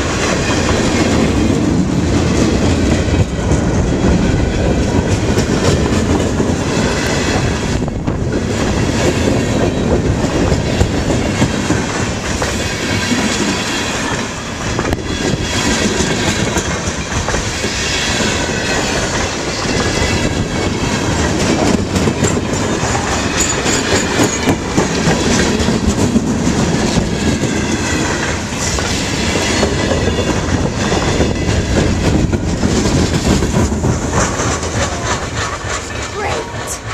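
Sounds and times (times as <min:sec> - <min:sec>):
train rumble: 0:00.0 - 0:36.9
train wheels clattering on rails: 0:00.0 - 0:36.9.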